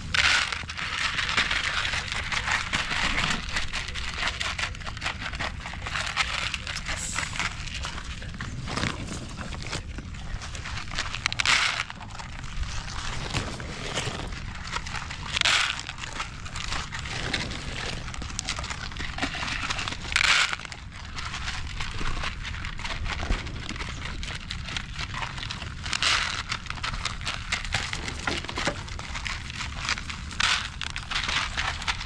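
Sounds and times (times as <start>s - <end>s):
dogs crunching dry kibble: 0.0s - 32.0s
plastic bowls rattling: 0.0s - 32.0s.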